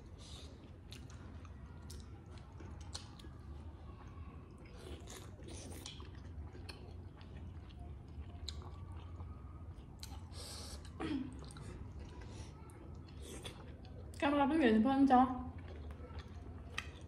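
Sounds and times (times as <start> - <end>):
people chewing: 0.0 - 14.2, 15.4 - 17.0.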